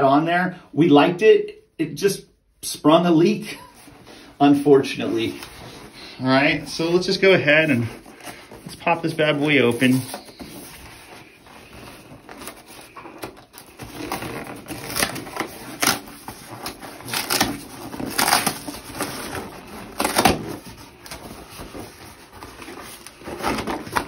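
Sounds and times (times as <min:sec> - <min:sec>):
cardboard scraping and crinkling: 0:03.8 - 0:24.0.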